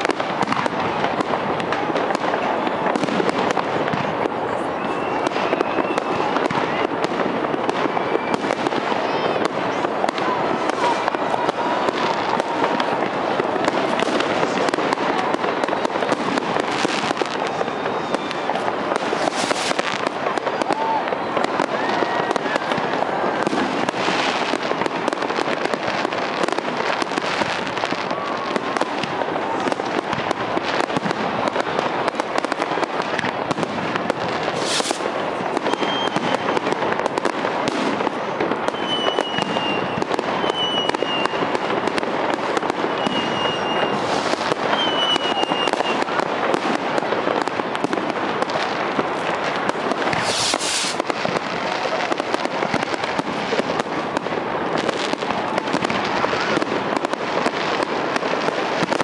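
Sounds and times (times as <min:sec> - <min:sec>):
firework whistles: 0:00.0 - 0:59.0
fireworks bangs and crackle: 0:00.0 - 0:59.0.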